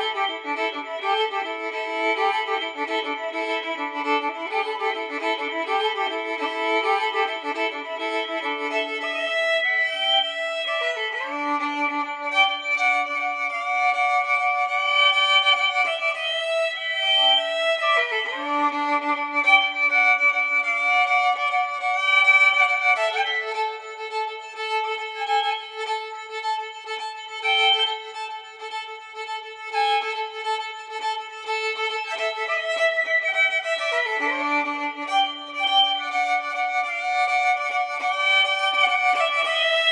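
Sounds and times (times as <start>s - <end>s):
violin music: 0.0s - 39.9s.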